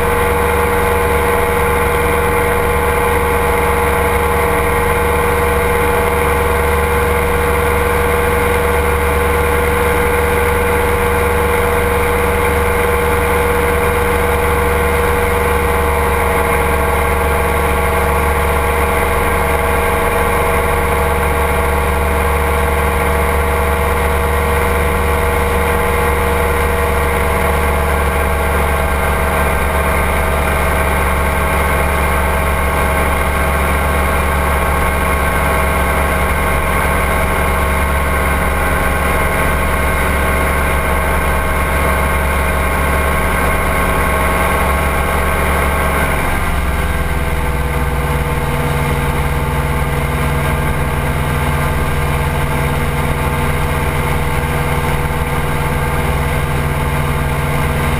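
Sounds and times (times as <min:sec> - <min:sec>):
ultralight engine and propeller droning: 0:00.0 - 0:57.9.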